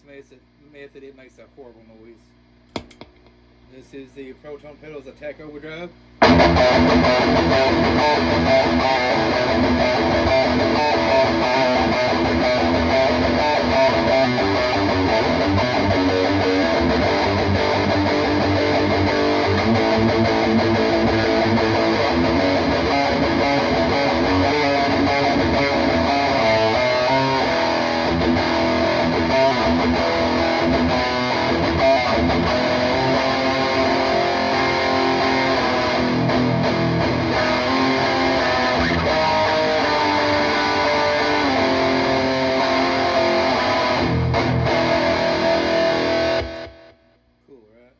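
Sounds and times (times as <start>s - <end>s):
distorted electric guitar riffs: 6.2s - 47.2s.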